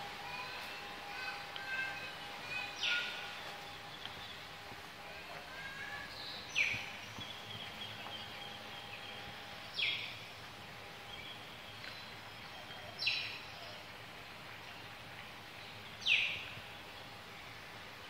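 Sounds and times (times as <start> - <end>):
faint outdoor background: 0.0 - 18.0.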